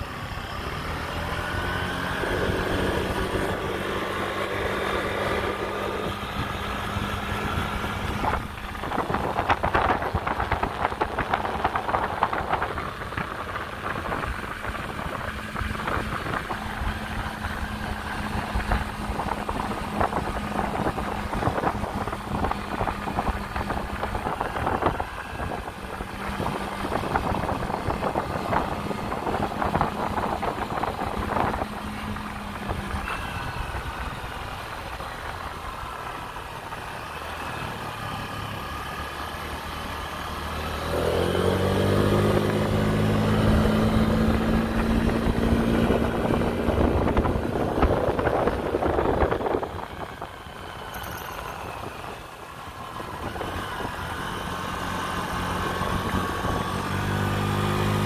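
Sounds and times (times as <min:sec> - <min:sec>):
wind rushing over microphone: 0:00.0 - 0:37.4, 0:40.4 - 0:50.9, 0:51.6 - 0:58.0
scooter engine cruising: 0:00.0 - 0:58.0.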